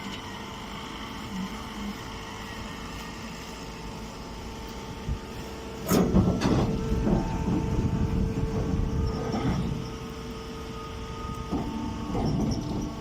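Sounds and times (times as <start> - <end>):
baler machine motor hum: 0.0 - 13.0.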